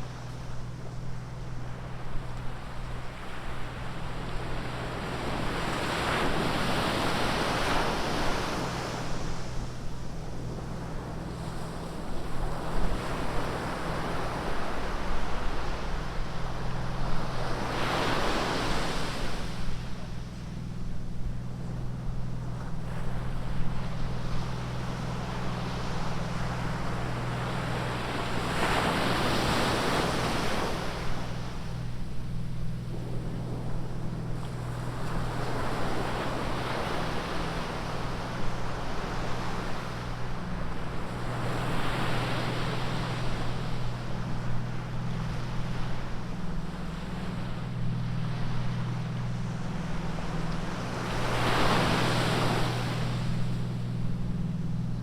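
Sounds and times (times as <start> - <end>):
steady low rumble: 0.0 - 55.0
waves breaking on a beach: 0.0 - 55.0.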